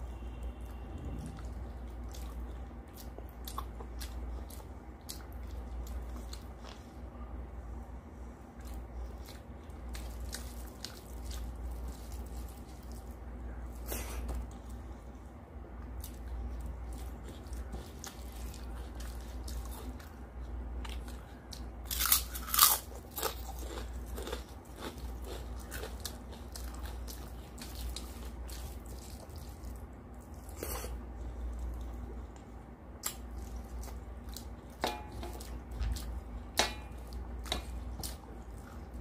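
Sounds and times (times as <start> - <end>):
chewing and biting food: 0.4 - 7.0, 8.5 - 14.9, 15.8 - 39.0.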